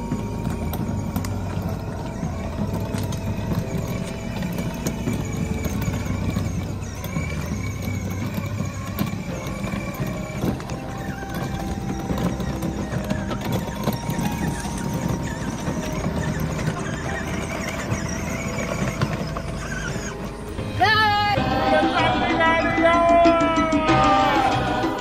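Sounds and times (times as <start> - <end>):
plastic wheels rattling on concrete: 0.0 - 25.0.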